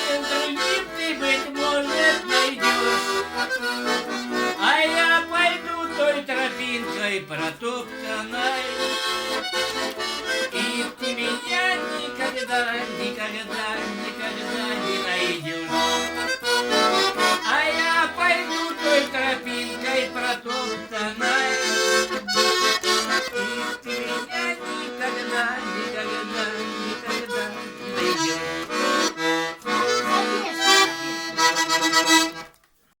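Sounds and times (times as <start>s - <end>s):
button accordion playing folk melody: 0.0s - 32.6s.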